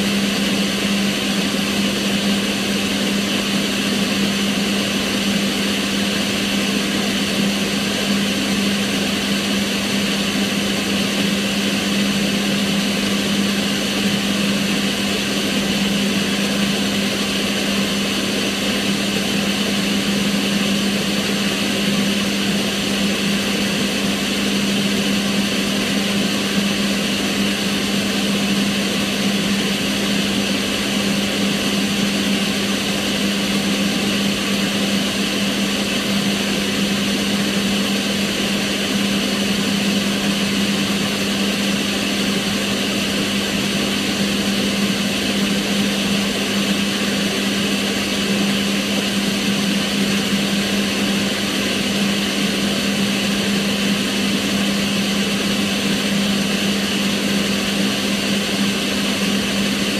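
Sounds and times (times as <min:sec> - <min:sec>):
extractor fan running: 0:00.0 - 0:59.9.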